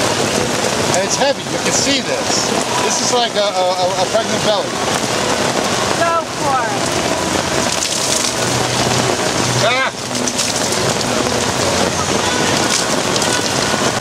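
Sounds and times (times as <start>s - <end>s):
rain drumming on fabric canopy: 0.0s - 14.0s.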